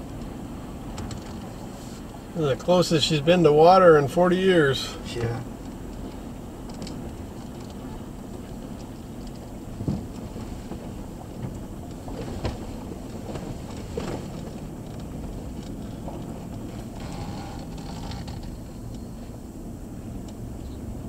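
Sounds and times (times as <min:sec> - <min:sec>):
engine and tyres on gravel: 0:00.0 - 0:21.0.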